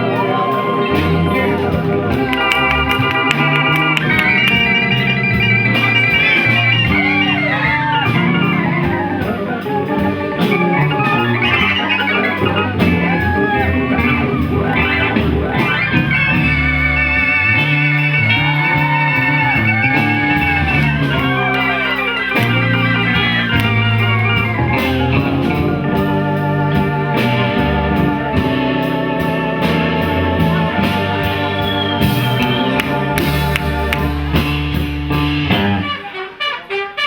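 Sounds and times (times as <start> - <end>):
organ holding chords: 0.0 - 36.0
guitar lines bending in pitch: 0.0 - 36.1
bass: 0.0 - 36.4
drums: 0.0 - 37.0.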